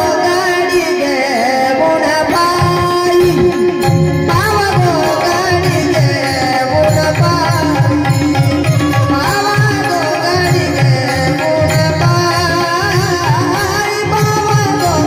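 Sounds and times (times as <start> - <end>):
tabla rhythm: 0.0 - 15.0
bulbul tarang melody: 0.8 - 15.0.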